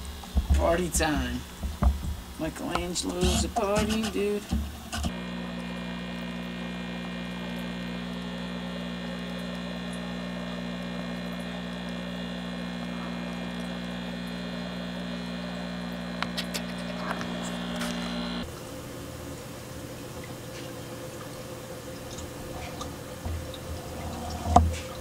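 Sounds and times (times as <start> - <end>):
air pump humming: 0.0 - 25.0.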